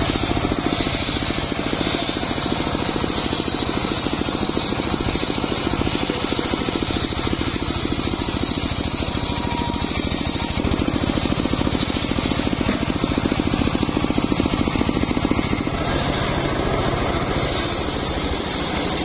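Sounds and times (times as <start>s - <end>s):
saw blade whining through log: 0.0s - 19.0s.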